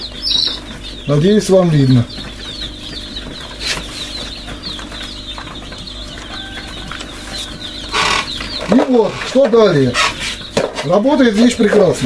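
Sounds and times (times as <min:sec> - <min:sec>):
chicks peeping: 0:00.0 - 0:12.0
machinery humming: 0:00.0 - 0:12.0.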